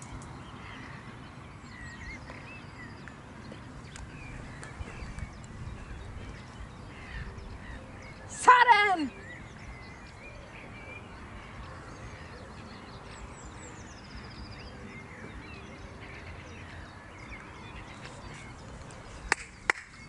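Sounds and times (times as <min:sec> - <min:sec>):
wild bird calls: 0:00.0 - 0:19.7
low background noise: 0:00.0 - 0:20.0.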